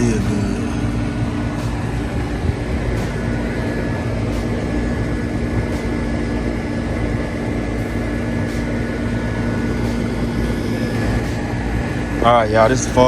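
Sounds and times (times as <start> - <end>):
machine drone: 0.0 - 13.0.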